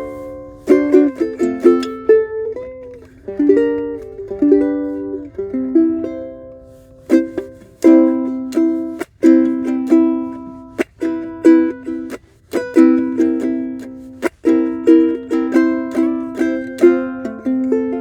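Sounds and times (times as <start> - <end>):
ukulele playing: 0.0 - 18.0.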